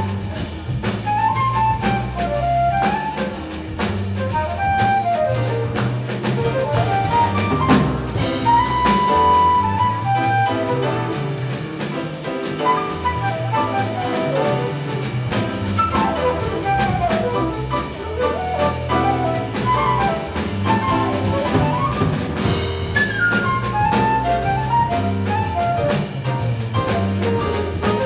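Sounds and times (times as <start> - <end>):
drum kit with cymbals: 0.0 - 28.0
upright bass: 0.0 - 28.0
flute playing fast notes: 1.0 - 3.5, 4.2 - 11.3, 12.6 - 26.2.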